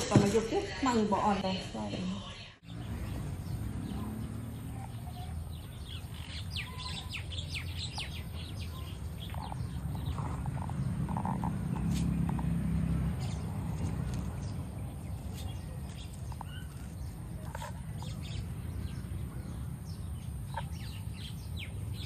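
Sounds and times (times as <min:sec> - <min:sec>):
small birds chirping: 0:02.6 - 0:22.0.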